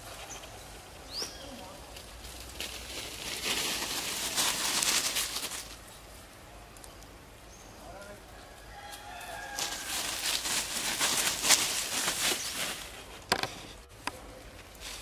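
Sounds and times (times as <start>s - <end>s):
undergrowth rustling and crackling: 0.0s - 15.0s.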